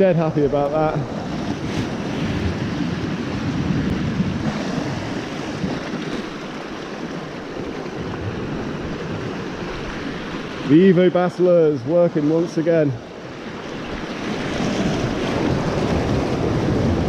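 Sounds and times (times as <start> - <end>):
wind on microphone: 0.0 - 10.7, 13.9 - 17.0
sea surf washing ashore: 0.0 - 17.0.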